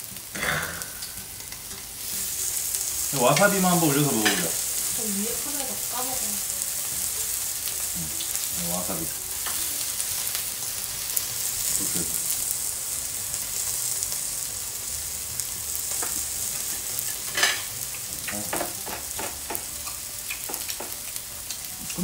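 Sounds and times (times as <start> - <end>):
meat sizzling on grill plate: 0.0 - 22.0.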